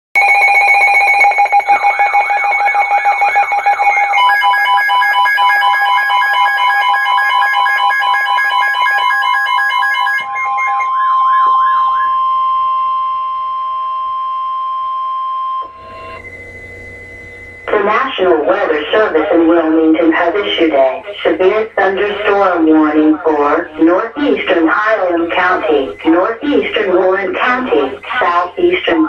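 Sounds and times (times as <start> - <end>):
rapid pulsing beeps: 0.2 - 13.4, 17.4 - 29.0
steady alarm tone: 0.2 - 29.0
warbling siren-like alarm tones: 0.2 - 29.0.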